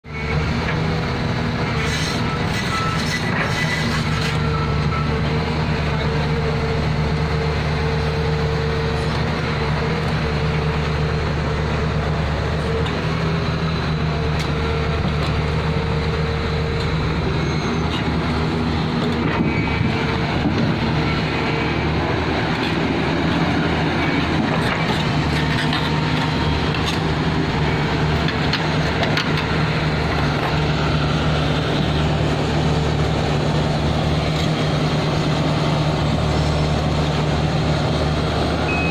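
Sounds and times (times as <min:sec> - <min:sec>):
excavator diesel engine: 0:00.0 - 0:38.9.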